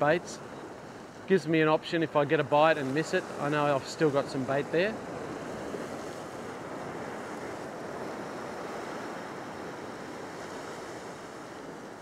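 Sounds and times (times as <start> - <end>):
ocean waves breaking over rocks: 0.0 - 12.0.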